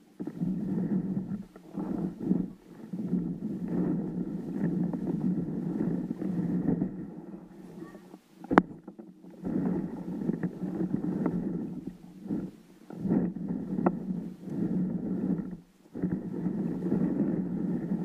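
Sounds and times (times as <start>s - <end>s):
water rumbling around kayak: 0.0s - 18.0s.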